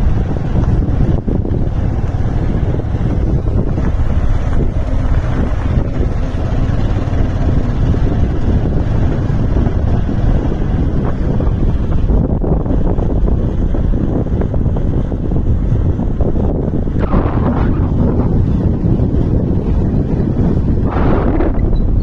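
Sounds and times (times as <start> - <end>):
vehicle running noise: 0.0 - 22.0
wind buffeting microphone: 0.0 - 22.0.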